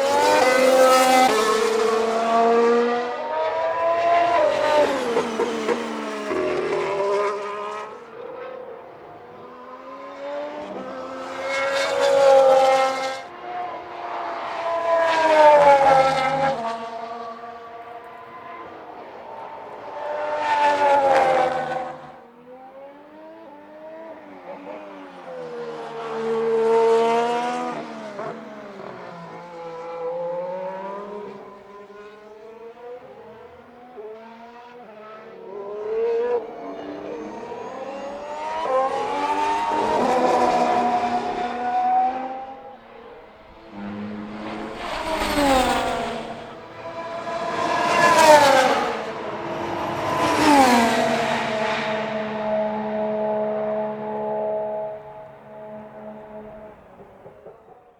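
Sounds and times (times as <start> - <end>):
racing cars passing by: 0.0 - 57.9.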